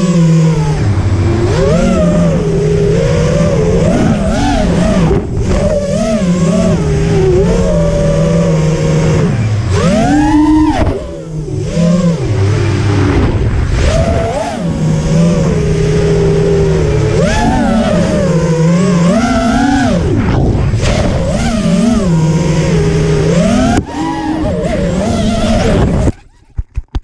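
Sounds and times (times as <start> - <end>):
quadcopter motors whining: 0.0 - 26.6.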